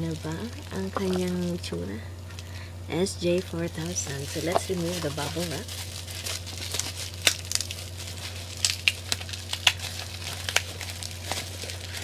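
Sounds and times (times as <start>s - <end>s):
bubble wrap crinkling: 0.0s - 12.0s
low electrical hum: 0.0s - 12.0s.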